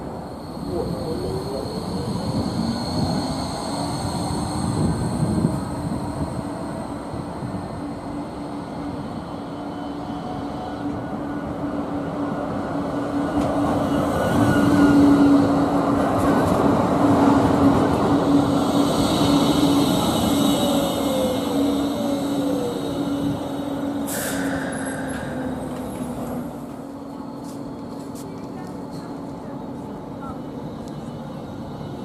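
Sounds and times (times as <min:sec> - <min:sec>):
tram steady hum: 0:00.0 - 0:32.0
tram wheels rumbling on rails: 0:00.0 - 0:32.0.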